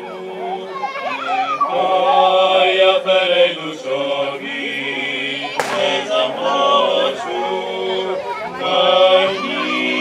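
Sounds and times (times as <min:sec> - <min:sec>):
male vocal quartet singing a cappella: 0:01.7 - 0:10.0.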